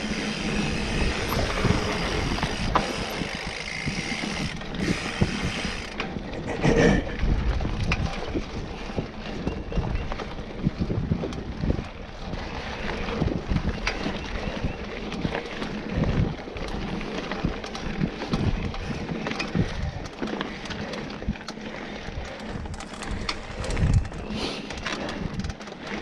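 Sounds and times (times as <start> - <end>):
bike rattling over rough ground: 0.0 - 26.0.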